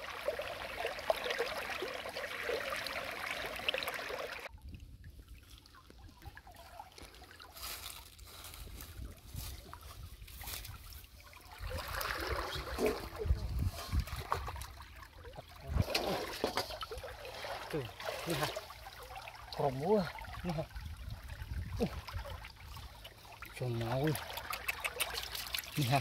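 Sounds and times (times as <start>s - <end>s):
stream water babbling: 0.0s - 8.5s, 9.3s - 26.0s.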